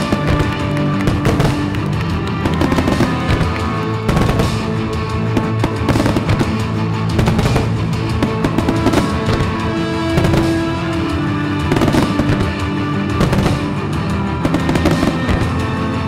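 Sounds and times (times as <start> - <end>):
fireworks bursting: 0.0 - 16.0
loud music: 0.0 - 16.0.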